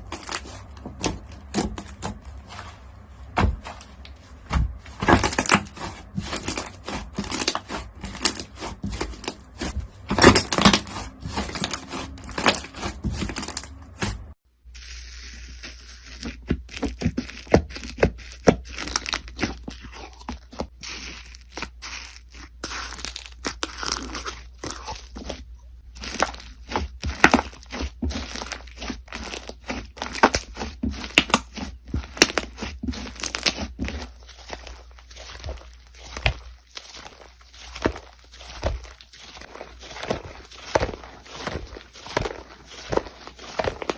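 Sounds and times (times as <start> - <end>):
crunchy slime crackling: 0.0 - 43.9.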